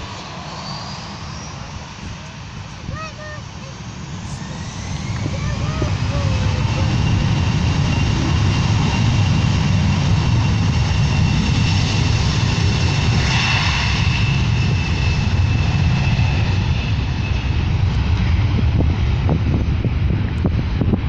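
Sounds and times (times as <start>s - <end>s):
airplane engines roaring: 0.0s - 21.0s.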